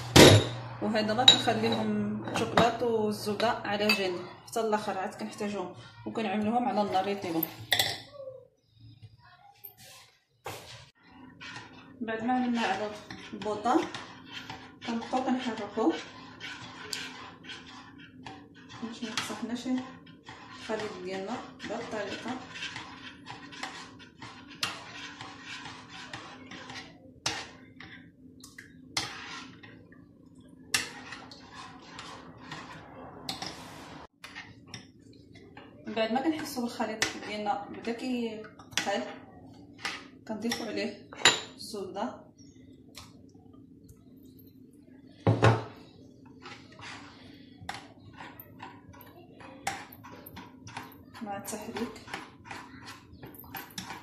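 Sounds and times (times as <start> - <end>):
metal spoon scraping a pot: 0.0 - 8.1, 9.8 - 41.8, 44.2 - 54.0.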